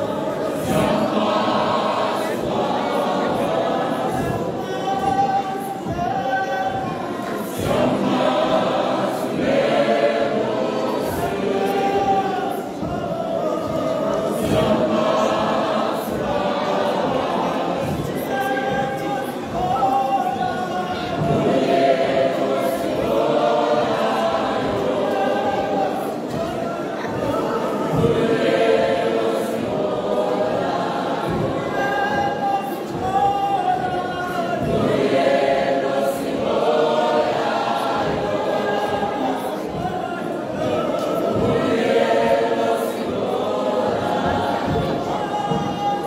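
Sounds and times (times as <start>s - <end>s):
church choir singing: 0.0s - 46.0s.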